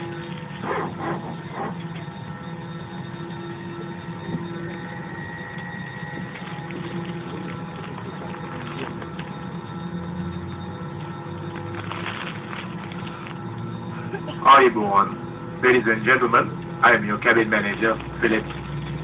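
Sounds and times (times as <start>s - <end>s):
air-conditioning and engine hum: 0.0s - 19.0s
airliner cabin drone: 0.0s - 19.0s.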